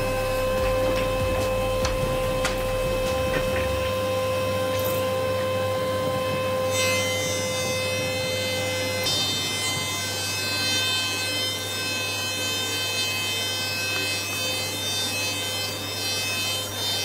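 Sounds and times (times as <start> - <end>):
jointer cutterhead whine: 0.0 - 17.0.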